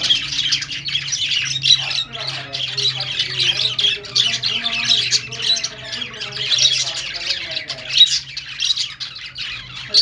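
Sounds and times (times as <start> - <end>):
budgerigars chirping and squawking: 0.0 - 10.0.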